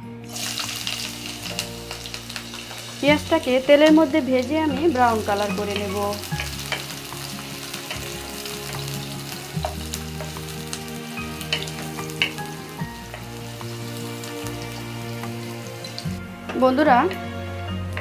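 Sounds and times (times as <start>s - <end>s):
onions sizzling in hot oil: 0.2s - 17.1s.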